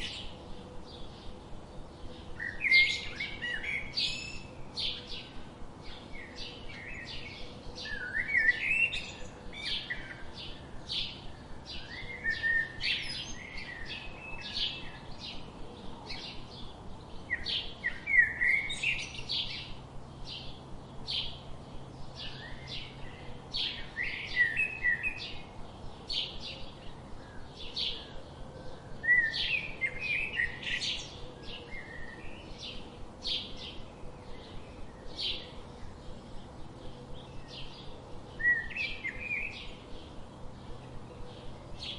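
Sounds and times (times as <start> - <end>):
bird warbling song: 0.0 - 41.9
songbirds chirping: 0.0 - 41.9.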